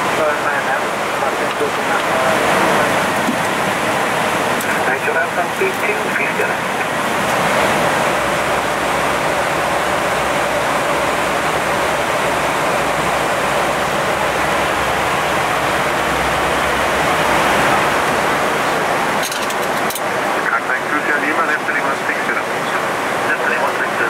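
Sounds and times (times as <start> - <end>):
cockpit airflow roar: 0.0 - 24.0.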